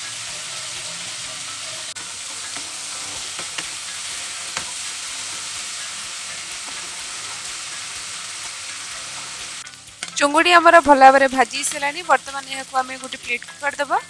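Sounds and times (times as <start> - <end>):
prawns sizzling in oil: 0.0 - 14.0.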